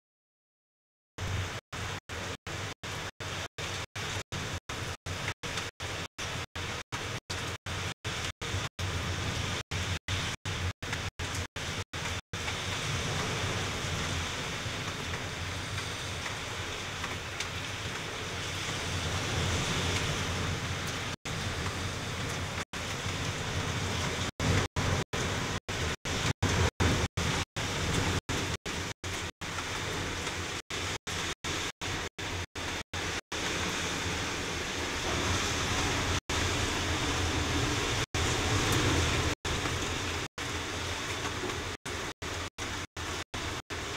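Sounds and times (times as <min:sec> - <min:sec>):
heavy rain pouring: 0:01.2 - 0:43.9.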